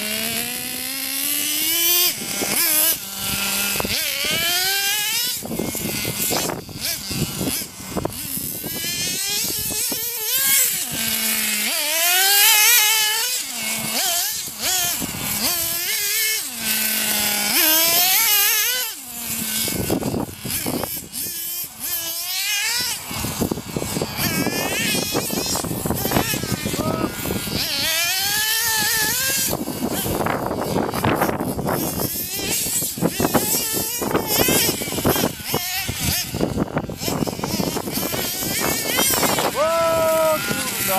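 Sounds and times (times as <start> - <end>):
rc buggy engine revving: 0.0 - 40.9.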